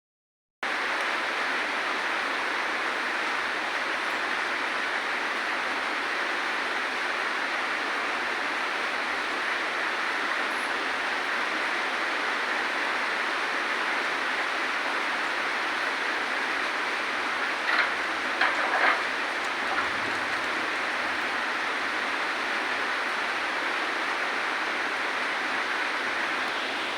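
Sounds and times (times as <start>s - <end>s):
steady rain hiss: 0.7s - 26.9s.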